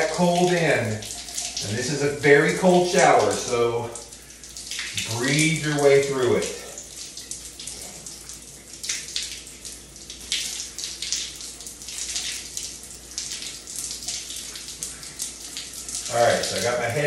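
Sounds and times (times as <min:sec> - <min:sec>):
shower spray splashing: 0:00.0 - 0:17.0.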